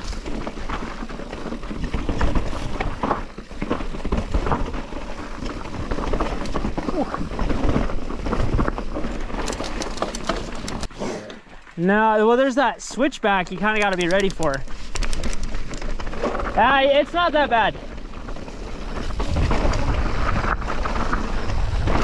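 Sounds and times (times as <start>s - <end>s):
bike rattling over rocks: 0.0s - 22.0s.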